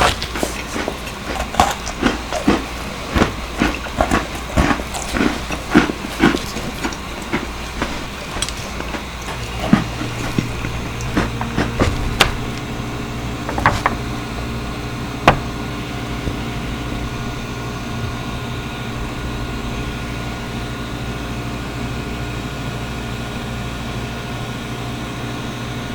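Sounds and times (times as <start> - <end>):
appliance hum: 0.0 - 25.9.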